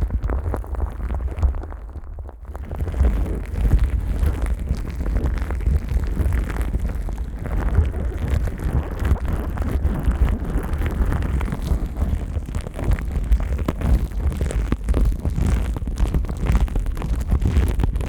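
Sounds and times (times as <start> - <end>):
microphone handling rumble: 0.0 - 18.0
plastic wrap crinkling: 0.0 - 18.0.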